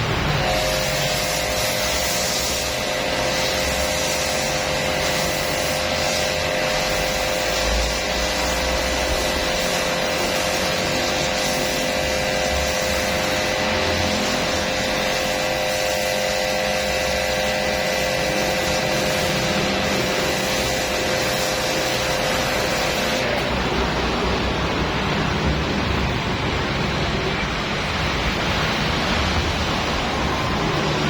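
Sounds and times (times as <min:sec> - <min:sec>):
washing machine running: 0:00.0 - 0:31.0.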